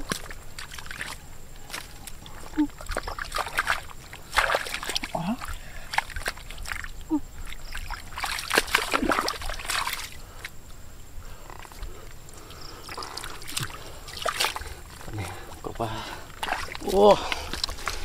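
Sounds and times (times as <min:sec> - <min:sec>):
hands splashing in muddy water: 0:00.0 - 0:10.6, 0:12.8 - 0:18.0.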